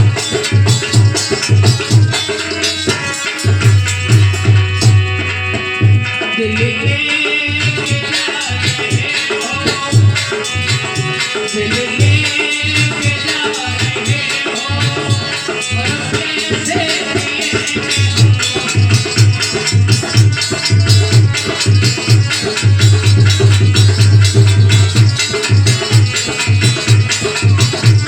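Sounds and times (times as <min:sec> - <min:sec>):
deep hand drum beat: 0:00.0 - 0:07.0, 0:07.6 - 0:28.0.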